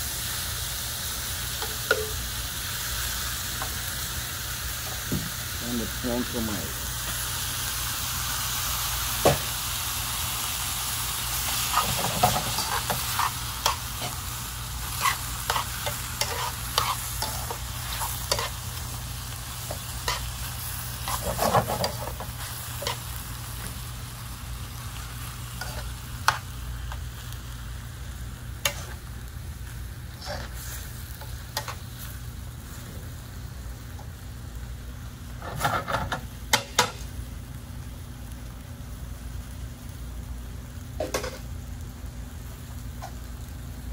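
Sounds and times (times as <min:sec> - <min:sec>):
vegetables sizzling in a skillet: 0:00.0 - 0:43.9.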